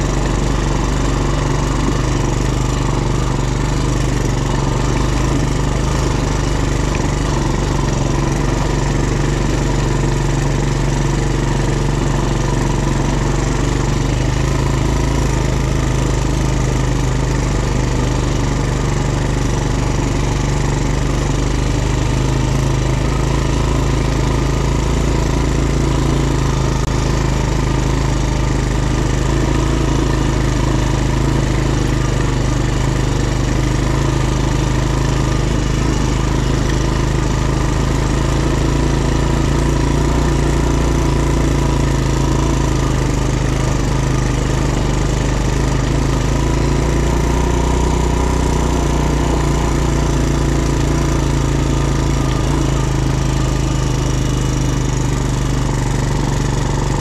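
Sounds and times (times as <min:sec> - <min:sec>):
quad engine running steadily: 0:00.0 - 0:57.0.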